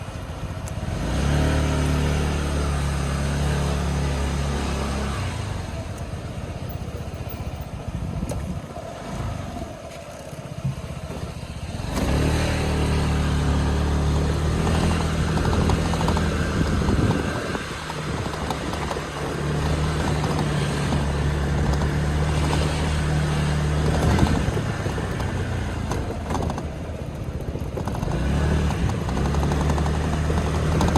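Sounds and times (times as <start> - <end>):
scooter engine running: 0.0 - 30.9
windscreen rattling: 0.0 - 30.9.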